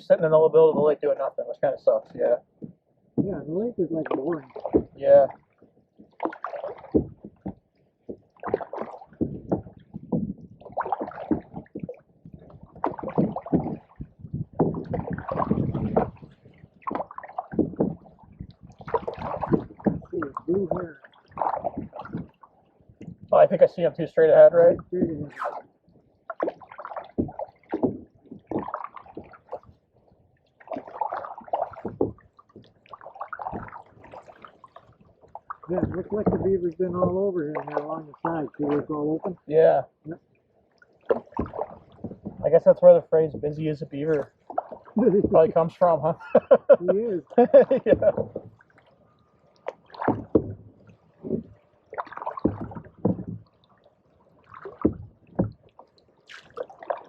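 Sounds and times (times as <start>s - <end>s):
canoe paddle strokes in water: 2.0s - 57.0s.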